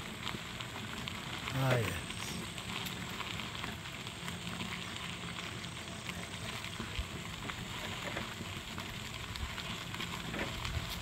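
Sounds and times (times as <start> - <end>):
fine crackling hiss: 0.0 - 11.0.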